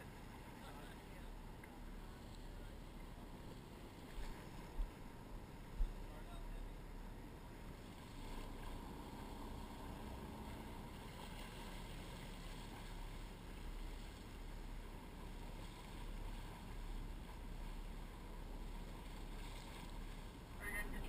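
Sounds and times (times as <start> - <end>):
sea water washing: 0.0 - 21.0
wind: 0.0 - 21.0.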